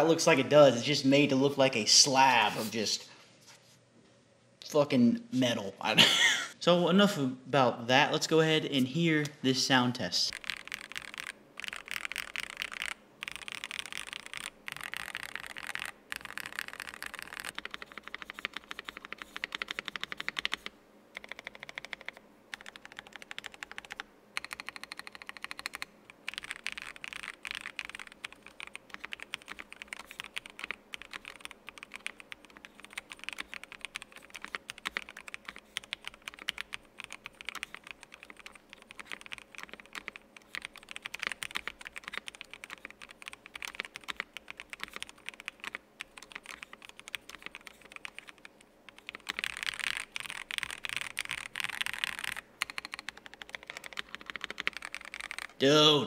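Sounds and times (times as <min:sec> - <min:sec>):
mechanical keyboard typing: 0:10.3 - 0:55.6.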